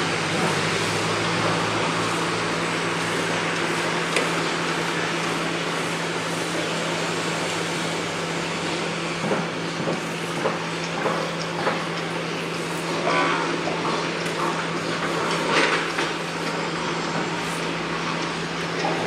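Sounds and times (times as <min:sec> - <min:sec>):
construction site din: 0:00.0 - 0:19.0
heavy machinery engine running: 0:00.0 - 0:19.0.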